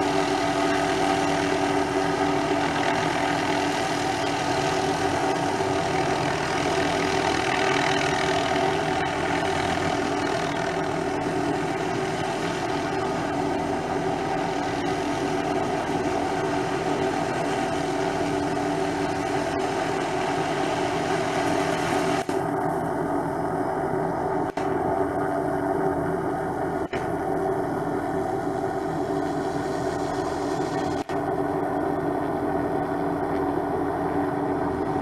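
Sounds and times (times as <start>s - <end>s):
helicopter engine and rotor: 0.0s - 35.0s.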